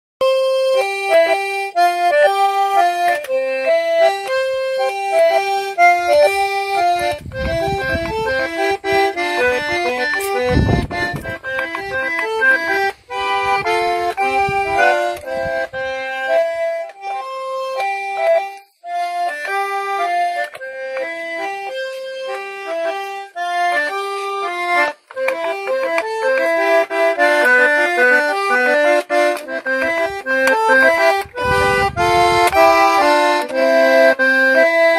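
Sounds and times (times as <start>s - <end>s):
button accordion melody: 0.2s - 34.9s.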